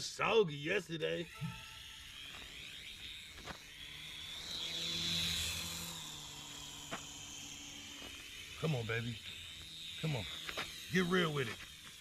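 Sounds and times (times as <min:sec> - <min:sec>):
toy helicopter motor whine: 0:00.0 - 0:12.0.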